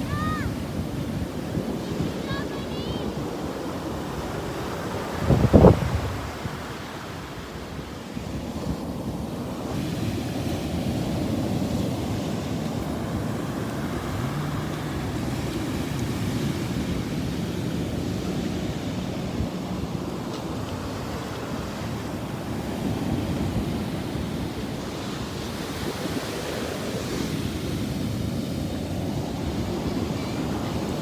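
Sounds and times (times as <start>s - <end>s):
ocean waves washing onto beach: 0.0s - 31.0s.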